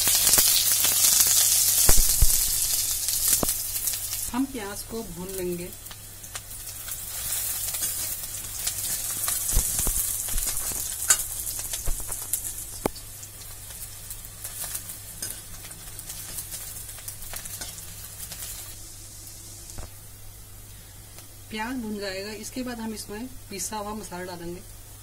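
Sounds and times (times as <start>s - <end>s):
onions sizzling in oil: 0.0s - 25.0s.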